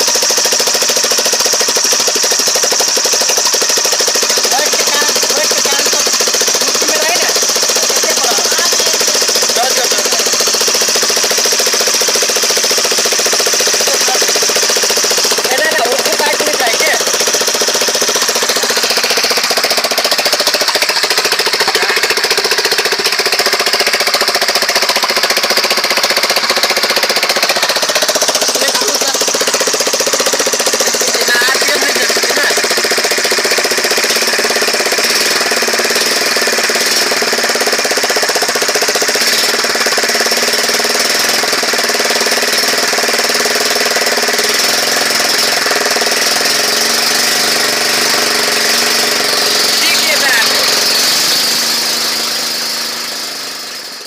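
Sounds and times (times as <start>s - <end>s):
petrol engine running loudly: 0.0s - 54.0s.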